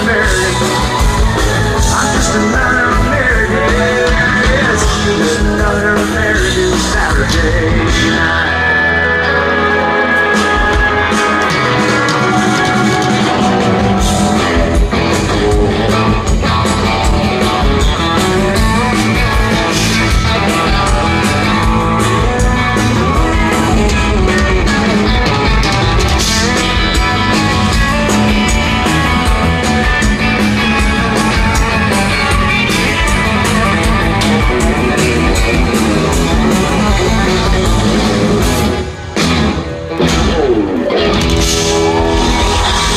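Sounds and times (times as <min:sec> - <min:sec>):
live country rock band: 0:00.0 - 0:42.9.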